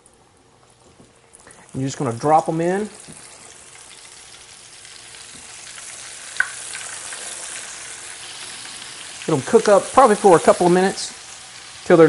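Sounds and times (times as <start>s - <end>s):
food sizzling in hot oil: 1.1s - 12.0s.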